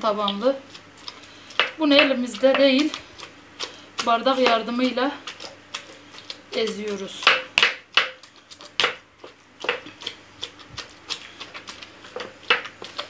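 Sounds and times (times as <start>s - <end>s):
vegetables mashed in steel bowl: 0.1s - 13.0s.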